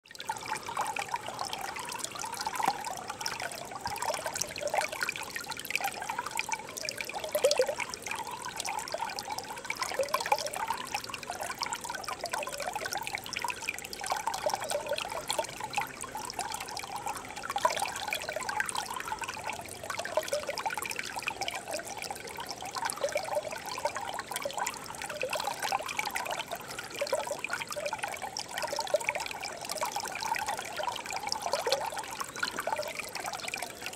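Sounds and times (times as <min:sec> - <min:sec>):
stream babbling over rocks: 0:00.2 - 0:33.9.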